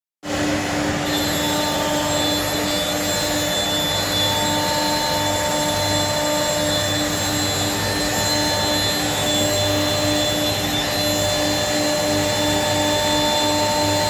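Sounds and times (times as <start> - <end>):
cnc router spindle whining: 0.3 - 14.0.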